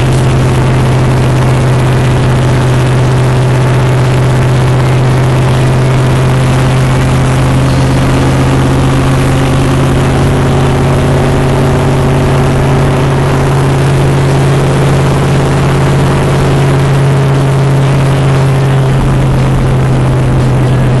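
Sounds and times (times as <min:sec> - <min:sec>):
car engine drone: 0:00.0 - 0:21.0
road noise hiss: 0:00.0 - 0:21.0.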